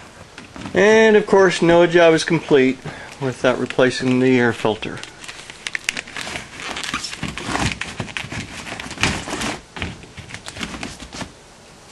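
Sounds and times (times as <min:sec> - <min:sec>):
air filter scraping and crinkling: 0:00.0 - 0:11.4.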